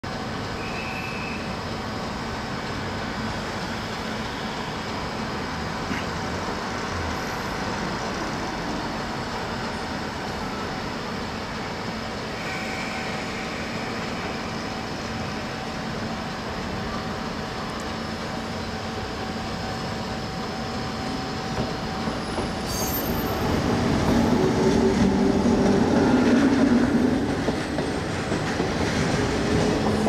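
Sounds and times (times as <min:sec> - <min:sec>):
tram rumbling on street track: 0:00.0 - 0:30.0
road traffic: 0:00.1 - 0:30.0.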